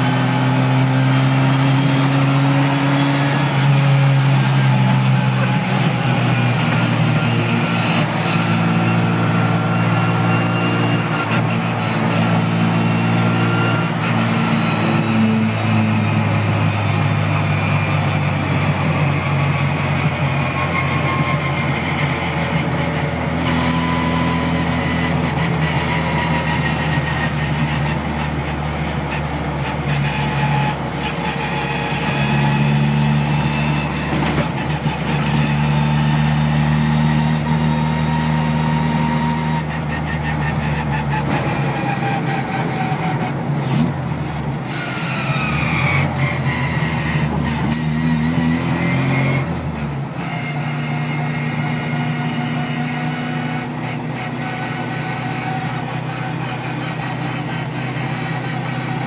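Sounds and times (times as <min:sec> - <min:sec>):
car engine driving: 0:00.0 - 0:59.0
high gear whine: 0:00.0 - 0:59.0.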